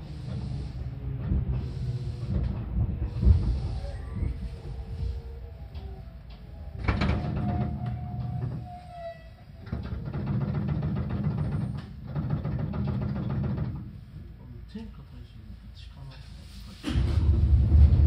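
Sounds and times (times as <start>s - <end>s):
train wheels rumbling on rail: 0.0s - 14.6s, 15.5s - 18.0s.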